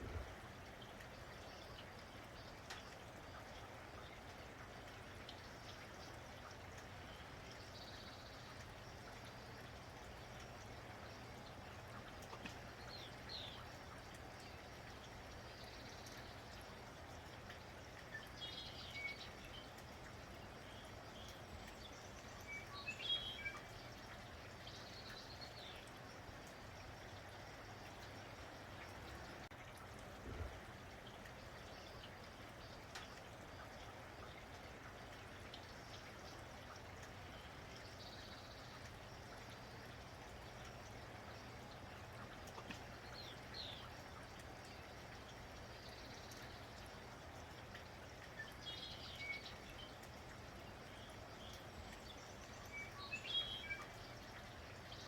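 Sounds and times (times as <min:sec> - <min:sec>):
light rain falling: 0:00.0 - 0:55.0
small birds chirping: 0:07.0 - 0:29.5, 0:31.0 - 0:55.0.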